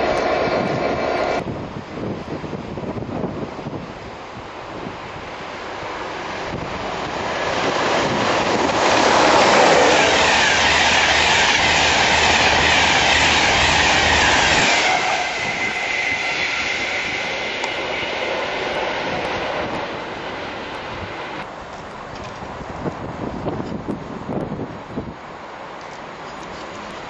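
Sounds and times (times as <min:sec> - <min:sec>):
high train whine: 0:00.0 - 0:27.0
train passing at speed: 0:00.0 - 0:27.0.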